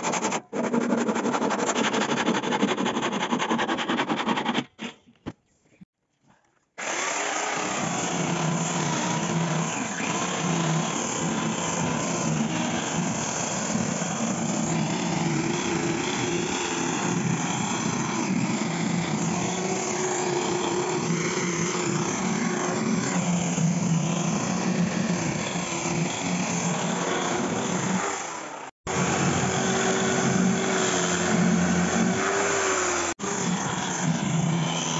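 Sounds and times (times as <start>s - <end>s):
angle grinder sanding wood: 0.0s - 4.9s, 6.8s - 34.9s.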